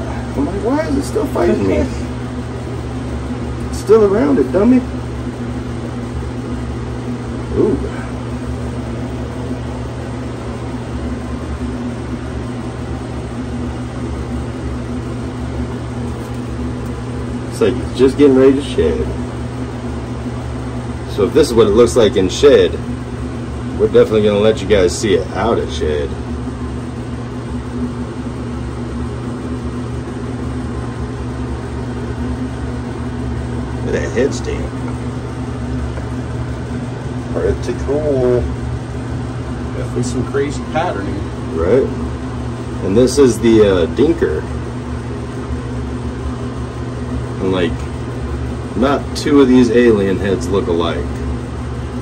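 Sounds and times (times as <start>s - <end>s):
air-handling fan humming: 0.0s - 52.0s.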